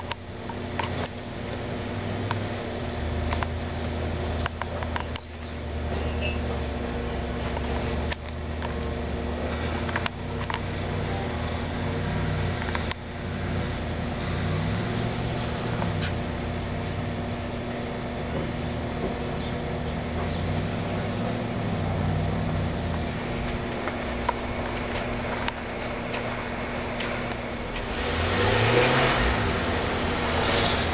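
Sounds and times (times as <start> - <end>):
steady low hum: 0.0 - 30.9
car engine revving: 5.7 - 30.9.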